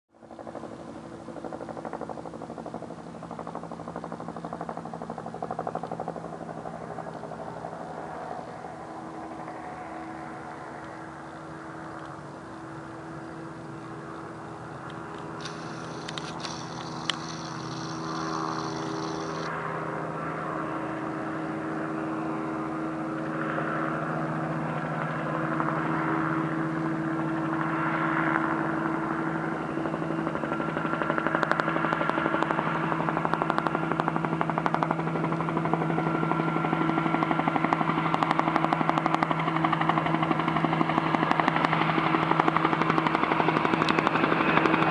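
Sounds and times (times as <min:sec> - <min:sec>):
helicopter engine hum: 0:00.1 - 0:44.9
helicopter rotor beat: 0:00.1 - 0:44.9.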